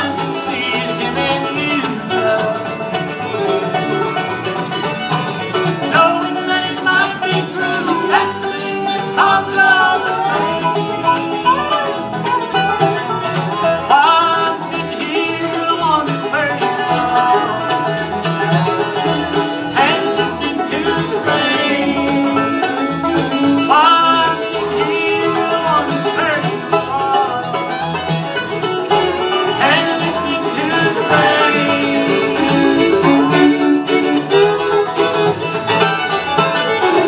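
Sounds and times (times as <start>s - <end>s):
acoustic guitars: 0.0s - 37.0s
banjo: 0.0s - 37.0s
fiddle: 0.0s - 37.0s
mandolin: 0.0s - 37.0s.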